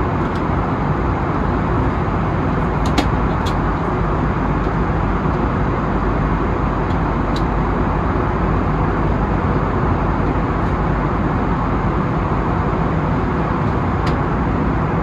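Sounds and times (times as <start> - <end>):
jet cabin engine rush: 0.0 - 15.0.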